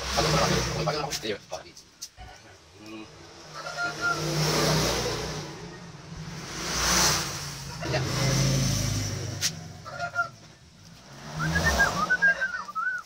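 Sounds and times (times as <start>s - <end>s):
road vehicles passing: 0.0s - 13.0s.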